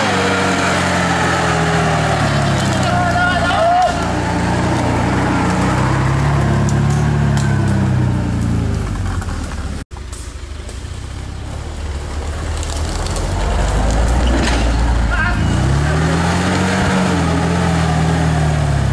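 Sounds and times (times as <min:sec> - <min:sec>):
off-road engine revving: 0:00.0 - 0:18.9.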